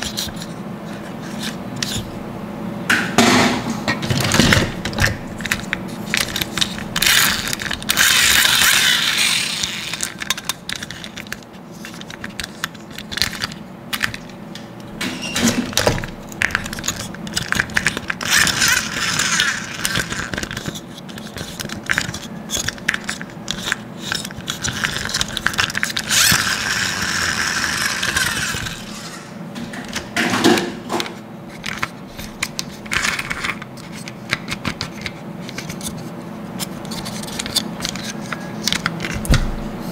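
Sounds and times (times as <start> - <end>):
plastic toys rasping: 4.1 - 14.4, 15.4 - 30.1, 31.5 - 39.3.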